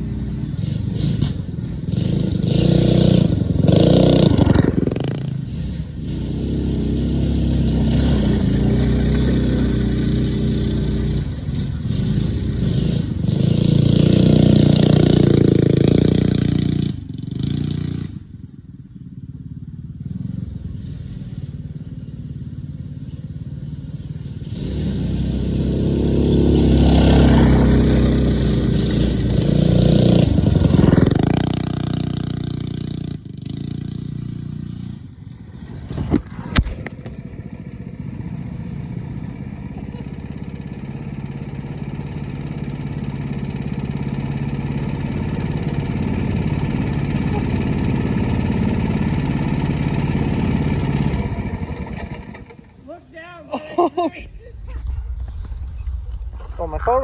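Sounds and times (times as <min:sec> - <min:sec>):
mini bike engine revving: 0:00.0 - 0:54.5.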